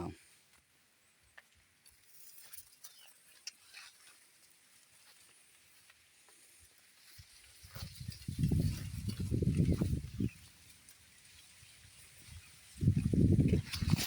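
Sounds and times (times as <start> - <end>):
soft ticks and rustles: 0.2 - 14.0.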